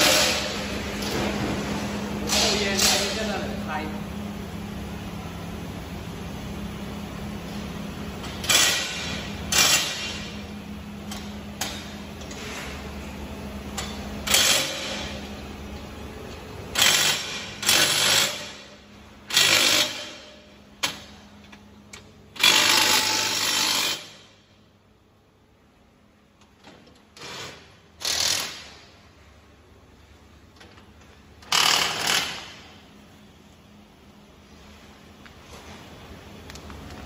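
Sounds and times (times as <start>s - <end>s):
machinery hum: 0.0s - 37.0s.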